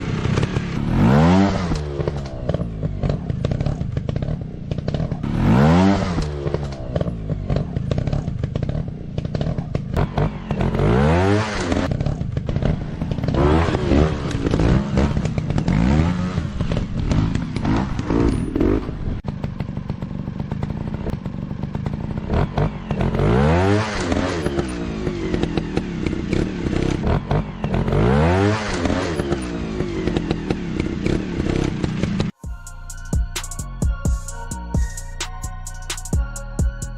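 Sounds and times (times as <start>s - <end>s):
dirt bike engine revving: 0.0s - 33.5s.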